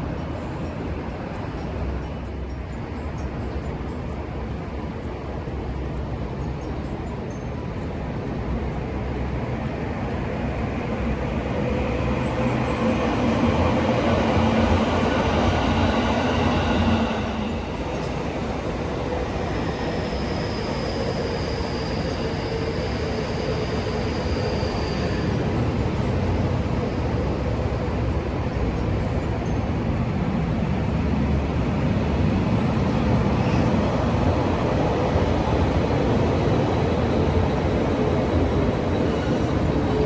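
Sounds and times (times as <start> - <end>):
steady whine: 0.0 - 40.0
train passing: 0.0 - 40.0.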